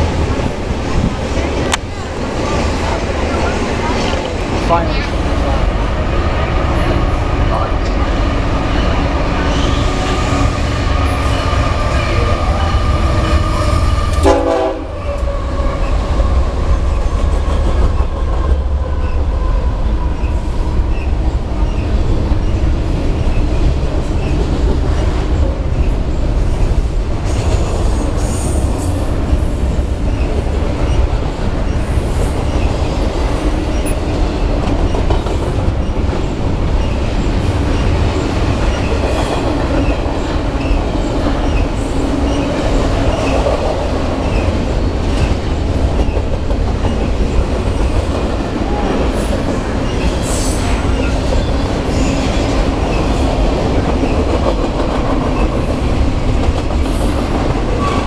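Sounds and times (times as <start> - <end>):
diesel locomotives passing: 0.0 - 58.0
train cars rumbling and clattering: 0.0 - 58.0.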